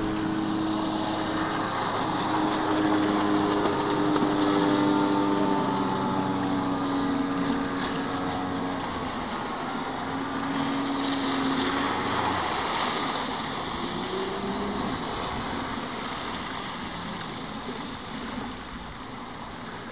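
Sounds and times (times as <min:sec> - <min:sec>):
hull and spray rushing: 0:00.0 - 0:19.8
outboard motor at speed: 0:00.0 - 0:19.9.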